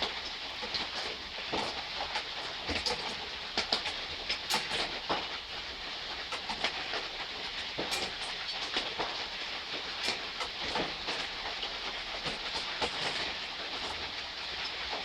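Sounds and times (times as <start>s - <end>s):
soft rain hissing: 0.0s - 15.0s.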